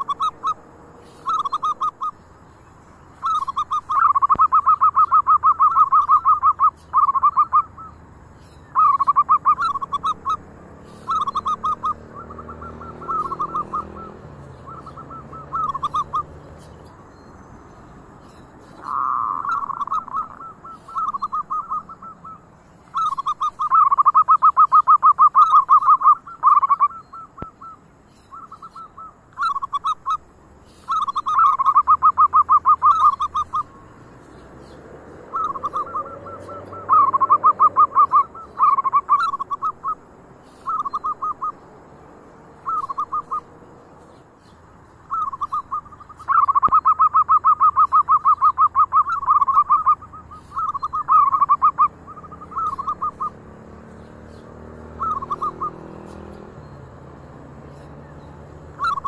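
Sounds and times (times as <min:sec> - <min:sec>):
doves cooing: 0:00.0 - 0:02.4, 0:03.0 - 0:17.1, 0:17.7 - 0:41.7, 0:42.5 - 0:44.0, 0:45.0 - 0:59.0.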